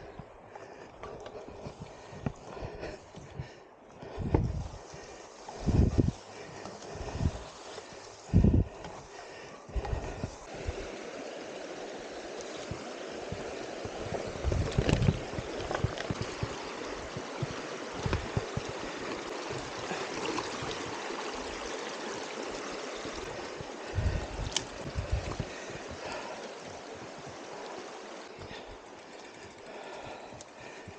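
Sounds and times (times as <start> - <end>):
running water rushing: 0.0 - 30.9.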